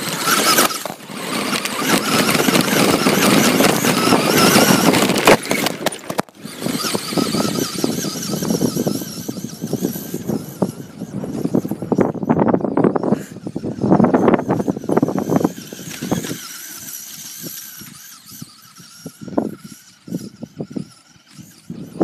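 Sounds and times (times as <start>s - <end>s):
electric motor whine: 0.0s - 22.0s
rough rumble: 0.0s - 22.0s.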